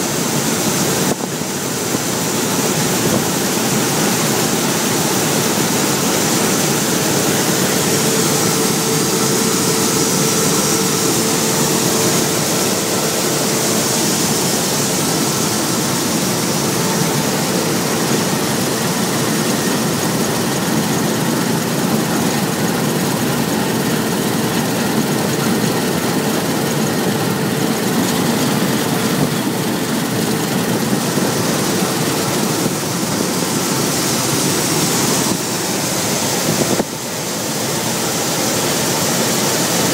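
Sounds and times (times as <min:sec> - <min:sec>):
combine harvester machinery drone: 0:00.0 - 0:39.9
faint steady whine: 0:00.0 - 0:39.9.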